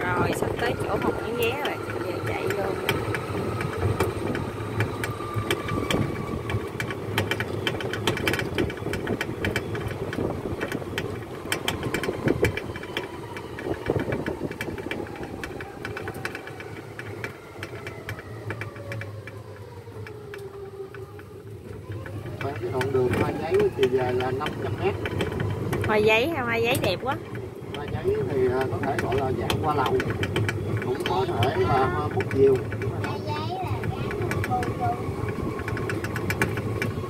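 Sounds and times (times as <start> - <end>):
cart clicks and rattles: 0.0 - 37.0
steady rumble: 0.0 - 37.0.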